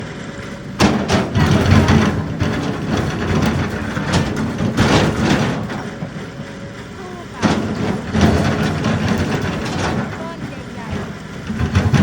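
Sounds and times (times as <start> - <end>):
excavator engine rough rumble: 0.0 - 12.0
metallic clanks and knocks: 0.8 - 6.4, 7.3 - 12.0.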